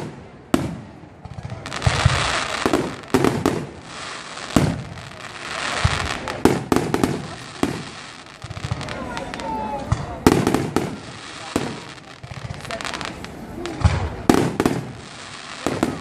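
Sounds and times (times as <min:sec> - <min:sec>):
firework hiss: 0:00.0 - 0:16.0.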